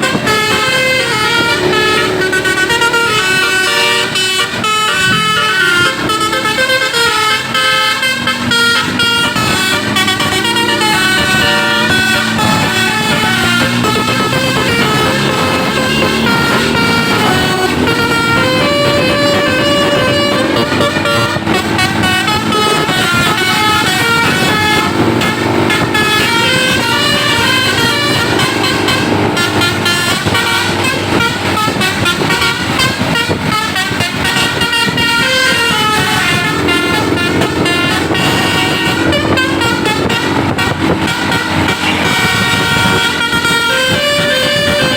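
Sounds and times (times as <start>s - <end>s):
musical bus horns playing melodies: 0.0s - 44.9s.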